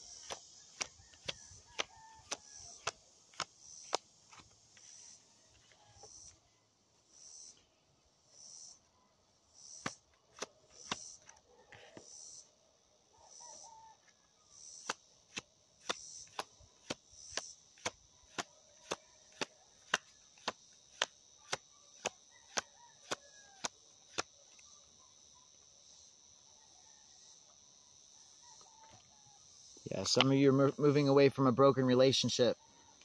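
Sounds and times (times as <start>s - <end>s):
high-pitched insect drone: 0.0s - 10.1s, 10.7s - 12.6s, 13.2s - 33.0s.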